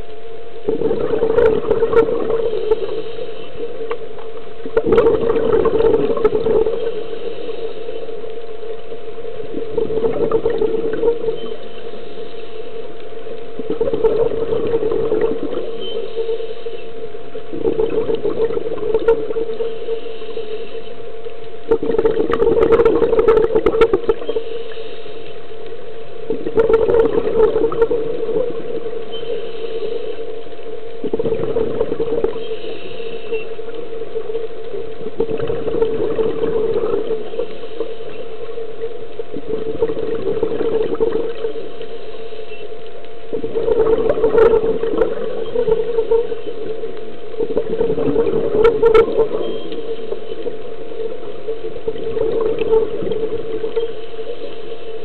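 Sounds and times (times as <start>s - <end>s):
steady low hum: 0.0s - 55.0s
underwater exhaled bubbles rushing: 0.0s - 55.0s.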